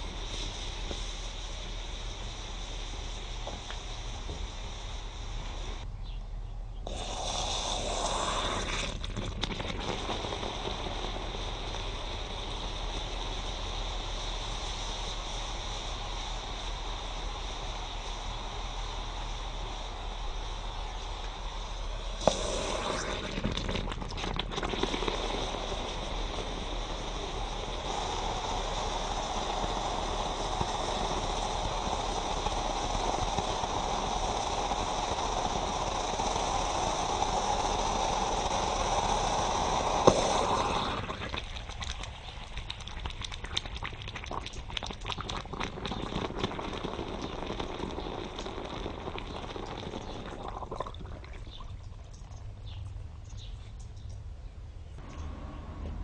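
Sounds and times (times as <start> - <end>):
crackling and popping: 0.0 - 5.9, 6.8 - 54.3
water hissing and boiling: 0.0 - 5.9, 6.8 - 53.3.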